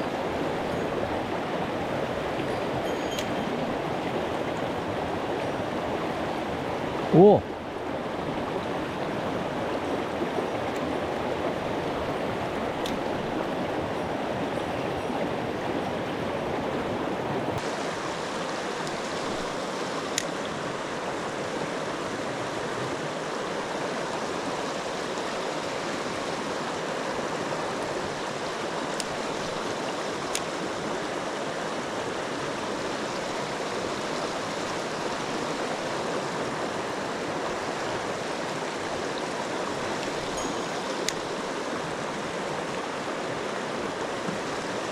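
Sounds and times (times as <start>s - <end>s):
stream water rushing and burbling: 0.0s - 44.9s.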